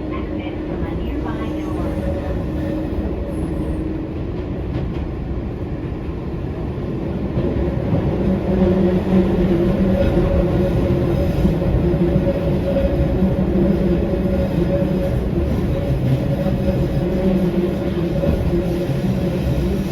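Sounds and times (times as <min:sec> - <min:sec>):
train wheels rumbling on rail: 0:00.0 - 0:19.9.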